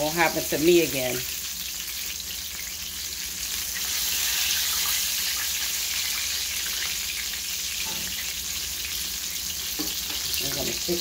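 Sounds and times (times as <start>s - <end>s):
fish frying in oil: 0.0s - 11.0s.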